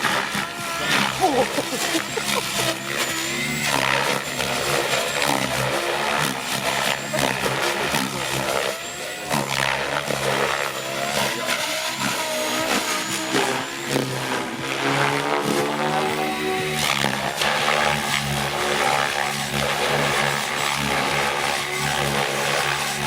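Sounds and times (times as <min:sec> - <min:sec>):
model helicopter rotor and motor: 0:00.0 - 0:23.0.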